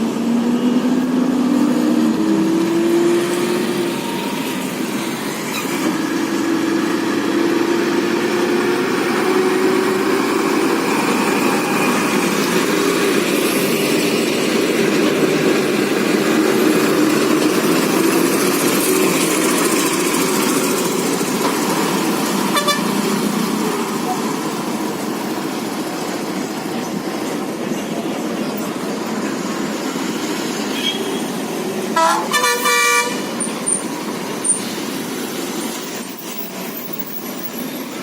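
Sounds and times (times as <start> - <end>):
heavy vehicle engine droning: 0.0 - 38.0.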